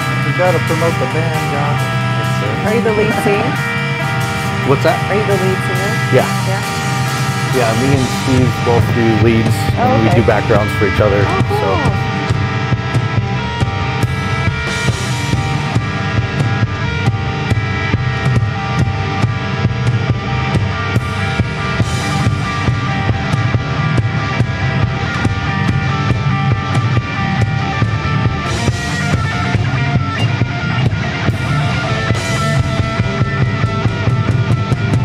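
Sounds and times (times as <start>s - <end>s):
bass guitar: 0.0s - 35.0s
distorted electric guitars: 0.0s - 35.0s
drum kit beat: 0.0s - 35.0s.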